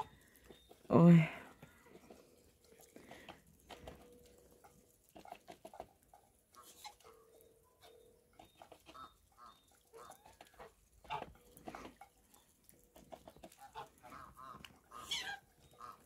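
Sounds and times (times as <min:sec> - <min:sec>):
faint poultry calls: 0:00.0 - 0:16.0.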